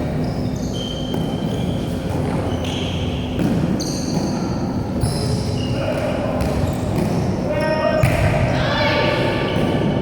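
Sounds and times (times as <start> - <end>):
sneakers squeaking on court floor: 0.0 - 8.3
sports hall hubbub: 0.0 - 10.0.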